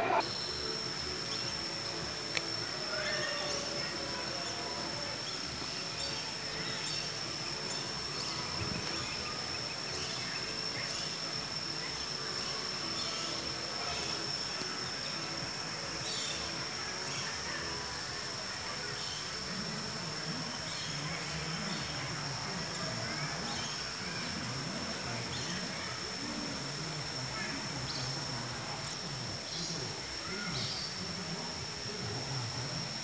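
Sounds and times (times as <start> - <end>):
high-pitched insect drone: 0.0 - 33.0.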